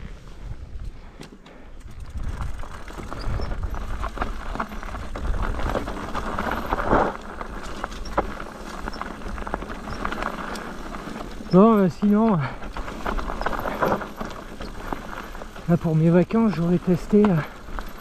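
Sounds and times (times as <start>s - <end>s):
bike rattling and knocking: 1.7s - 18.0s
tyres crunching on stones: 2.2s - 18.0s.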